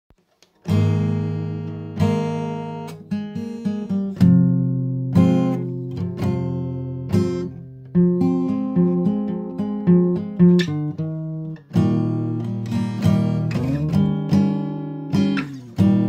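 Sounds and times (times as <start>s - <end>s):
acoustic guitar strumming chords: 0.6s - 16.0s.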